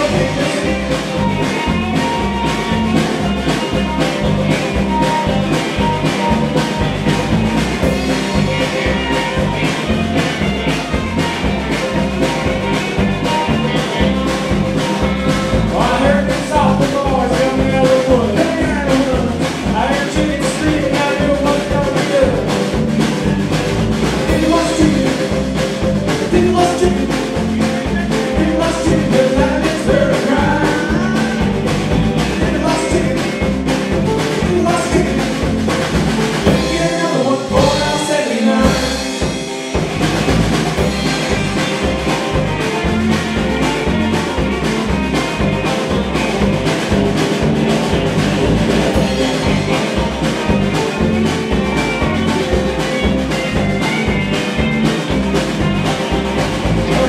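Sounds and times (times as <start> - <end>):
country-rock band playing: 0.0 - 57.0.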